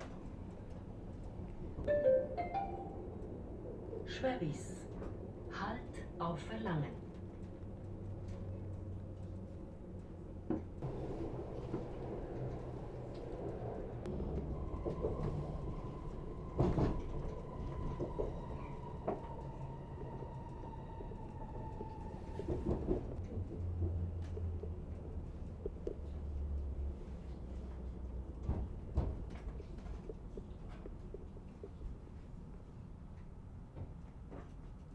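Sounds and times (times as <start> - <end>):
train rumbling: 0.0 - 34.9.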